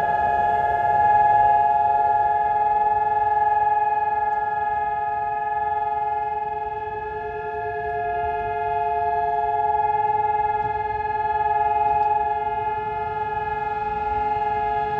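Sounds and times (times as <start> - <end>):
air-raid sirens steady tone: 0.0 - 14.9.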